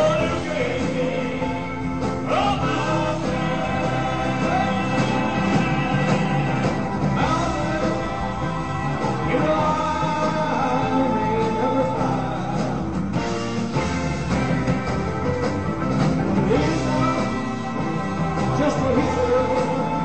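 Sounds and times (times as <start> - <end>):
man singing: 0.0 - 13.4, 16.4 - 20.0
live rock band playing: 0.0 - 20.0.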